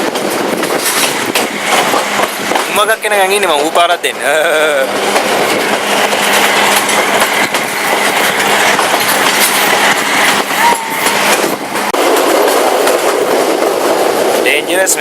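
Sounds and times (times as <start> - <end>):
train rolling noise: 0.0 - 15.0
train wheels clacking over rail joints: 0.0 - 15.0.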